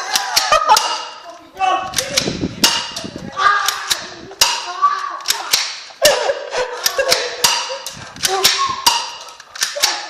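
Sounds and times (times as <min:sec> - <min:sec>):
people's voices: 0:00.0 - 0:10.0.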